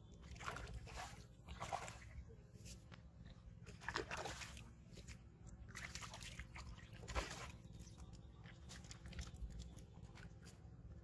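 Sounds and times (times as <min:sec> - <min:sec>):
fish splashing and thrashing in water: 0:00.0 - 0:02.4, 0:03.4 - 0:11.0.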